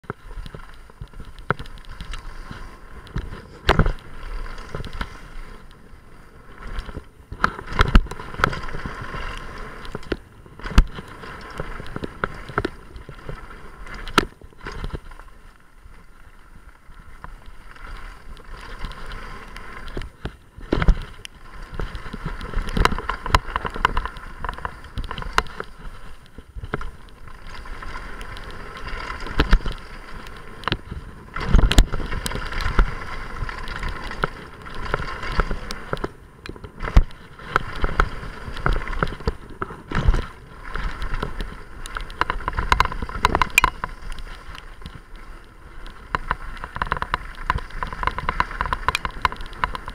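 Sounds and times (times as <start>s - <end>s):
bike rattling: 0.0s - 49.9s
bike tyre noise on gravel: 0.0s - 49.9s.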